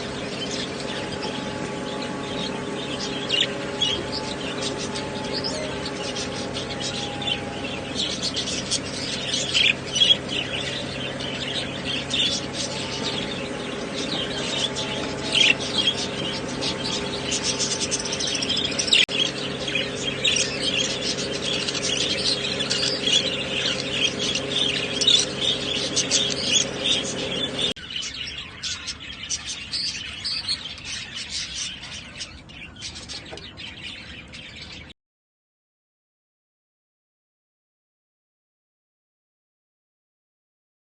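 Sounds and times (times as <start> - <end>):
steady low hum: 0.0 - 34.2
caged birds chirping: 0.0 - 34.9.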